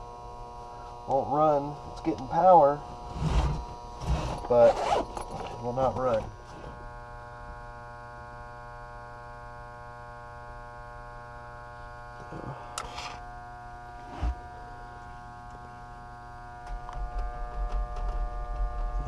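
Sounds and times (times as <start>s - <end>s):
furnace motor humming: 0.0s - 19.0s.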